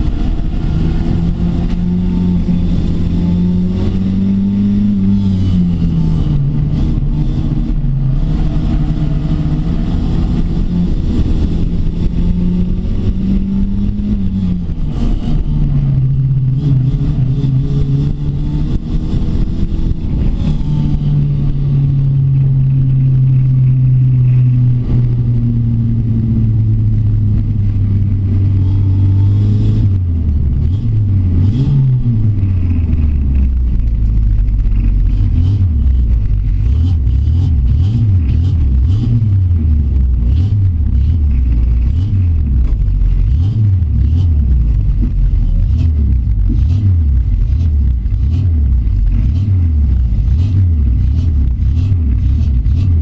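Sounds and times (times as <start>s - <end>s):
race car engine revving: 0.0s - 53.0s
road noise: 0.0s - 53.0s.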